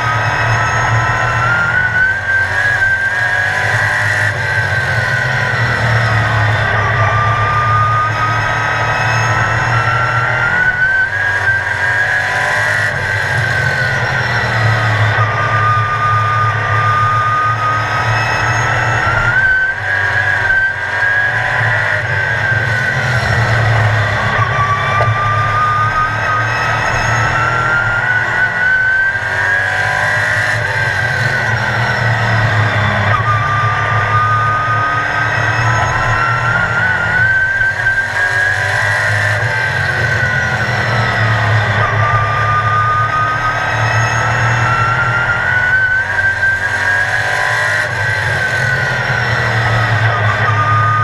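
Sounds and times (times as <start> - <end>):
race car engine: 0.0 - 51.0.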